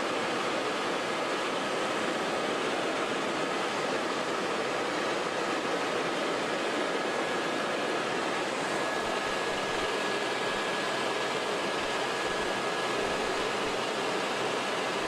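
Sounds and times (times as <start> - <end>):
faint high whine: 0.0 - 15.0
helicopter engine and rotor noise: 0.0 - 15.0.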